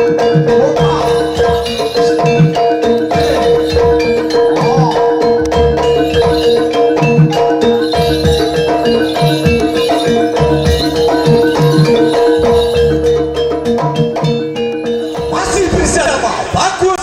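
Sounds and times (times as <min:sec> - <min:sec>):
gong-chime and metallophone notes: 0:00.0 - 0:16.6
hand-drum strokes: 0:00.0 - 0:17.0
steady held tone: 0:00.8 - 0:13.4, 0:14.9 - 0:17.0.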